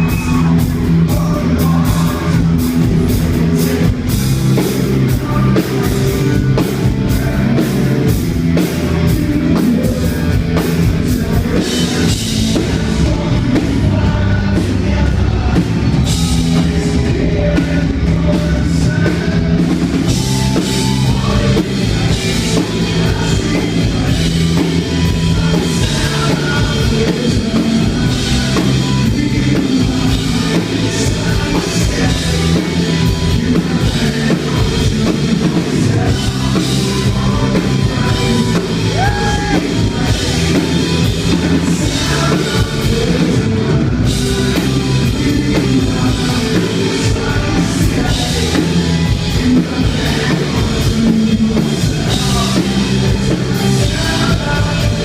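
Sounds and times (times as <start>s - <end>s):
drum kit beat: 0.0s - 55.0s
person singing: 0.0s - 55.0s
rock band playing live: 0.0s - 55.0s.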